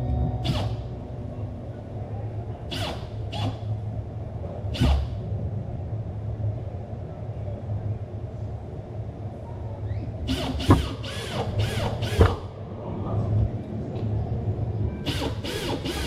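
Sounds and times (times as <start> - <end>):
steady low rumble: 0.0 - 15.1.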